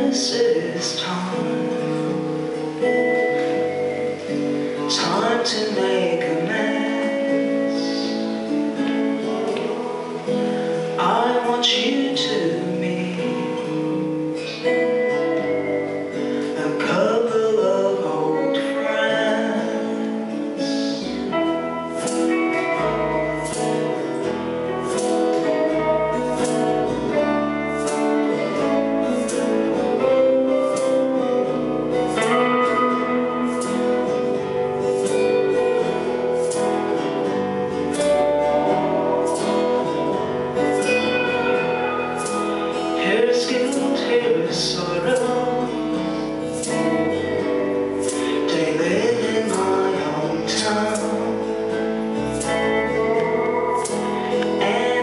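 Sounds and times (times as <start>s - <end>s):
acoustic guitar strumming: 0.0s - 55.0s
person singing: 0.0s - 55.0s.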